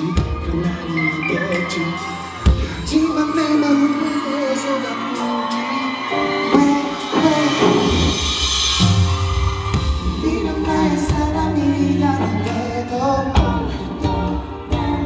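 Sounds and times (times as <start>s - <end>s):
live pop music over pa: 0.0s - 15.0s.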